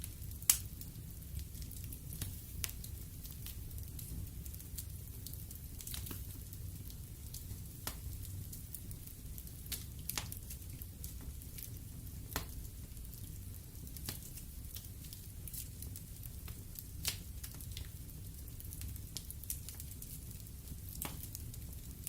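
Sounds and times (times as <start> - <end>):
fire flames rumbling: 0.0 - 22.0
wood crackling and popping: 0.0 - 22.0.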